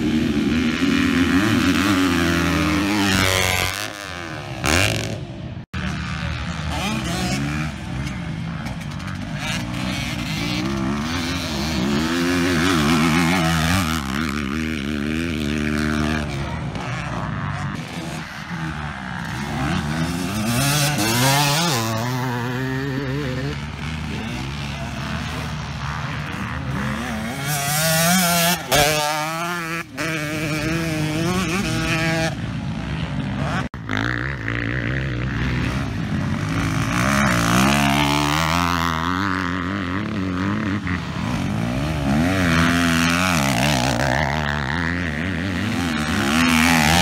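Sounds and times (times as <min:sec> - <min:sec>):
dirt bike engines revving: 0:00.0 - 0:47.0.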